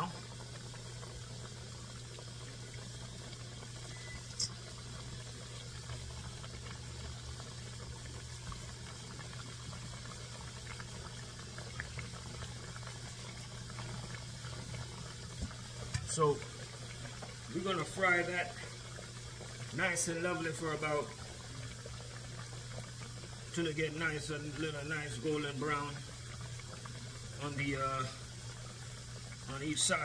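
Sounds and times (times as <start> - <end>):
oil sizzling and bubbling: 0.0 - 30.0.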